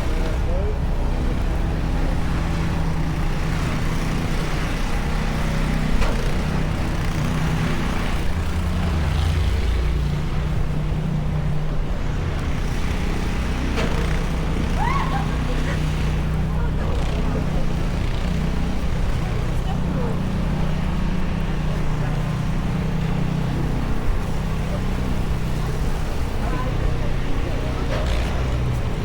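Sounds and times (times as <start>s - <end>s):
road traffic noise: 0.0s - 29.0s
vehicle engine hum: 0.0s - 29.0s.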